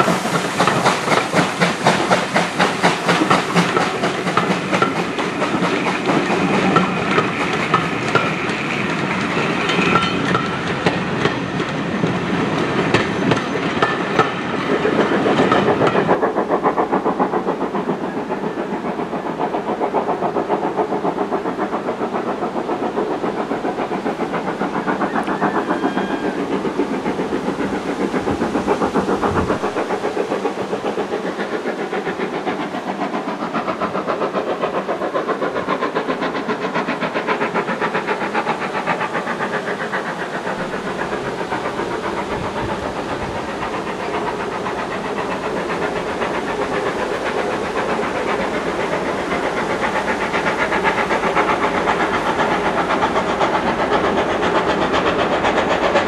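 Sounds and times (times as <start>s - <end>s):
steam hiss: 0.0s - 56.0s
steam locomotive beat: 0.0s - 56.0s
train wheels clicking on rail joints: 0.0s - 56.0s.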